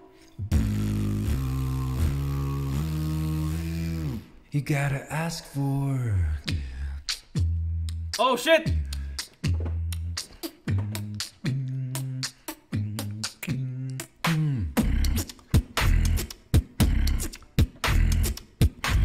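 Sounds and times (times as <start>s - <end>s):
person beatboxing: 0.4s - 4.4s, 5.9s - 19.0s.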